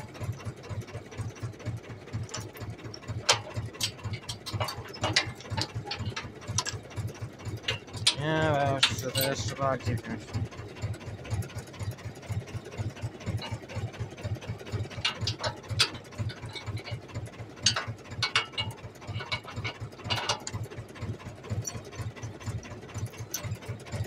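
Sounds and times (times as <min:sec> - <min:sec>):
metallic hitch clicks: 0:00.0 - 0:10.6, 0:11.3 - 0:24.0
tractor diesel engine idling: 0:00.0 - 0:24.0.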